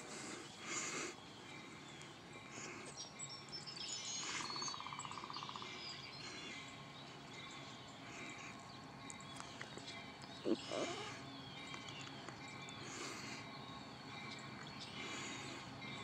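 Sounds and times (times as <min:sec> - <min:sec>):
birds chirping: 0:00.0 - 0:16.0
rapid bird trill: 0:00.0 - 0:16.0.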